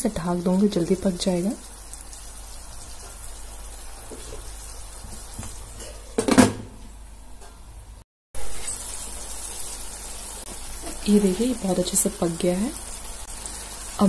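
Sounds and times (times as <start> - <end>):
vegetables sizzling in a pan: 0.0 - 6.2, 8.4 - 14.0.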